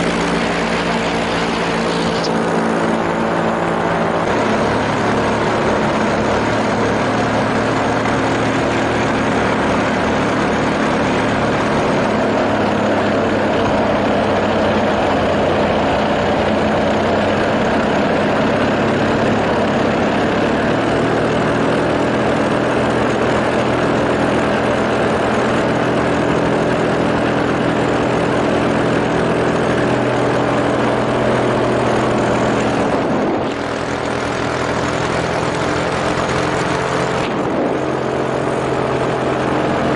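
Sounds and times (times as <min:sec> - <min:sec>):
propeller engine humming: 0:00.0 - 0:39.9.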